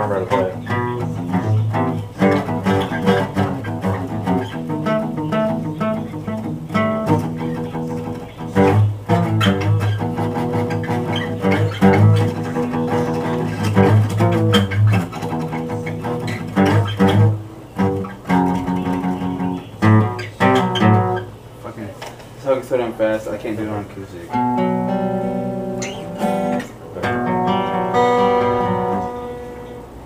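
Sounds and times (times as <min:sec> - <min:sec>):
acoustic guitars strumming: 0:00.0 - 0:21.6, 0:23.6 - 0:30.0.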